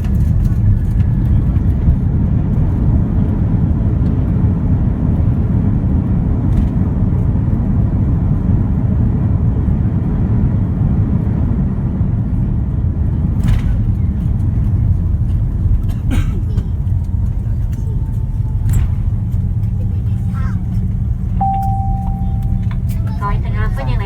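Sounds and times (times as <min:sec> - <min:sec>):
aircraft engines rumbling: 0:00.0 - 0:24.0.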